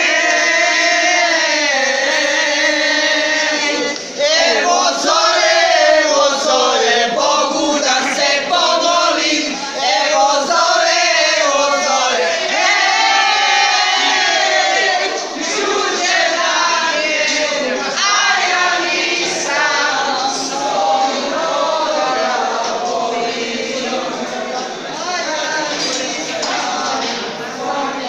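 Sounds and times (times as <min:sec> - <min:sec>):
women singing folk song: 0:00.0 - 0:28.0.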